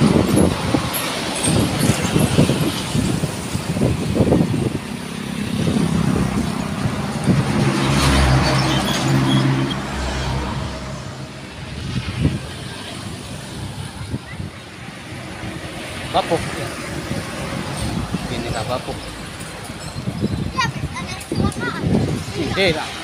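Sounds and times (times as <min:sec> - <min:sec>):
truck diesel engine passing: 0:00.0 - 0:23.0
wind buffeting microphone: 0:00.0 - 0:23.0.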